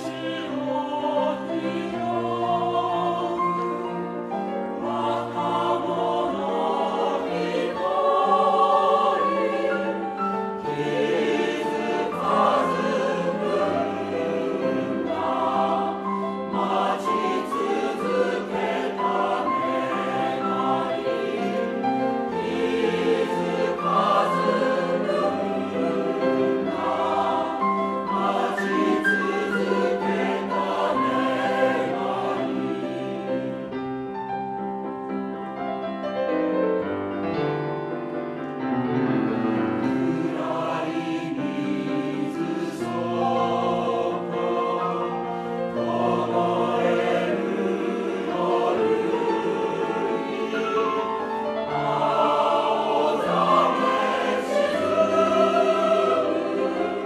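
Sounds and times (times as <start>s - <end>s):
mixed choir singing in parts: 0.0s - 33.8s, 39.0s - 57.0s.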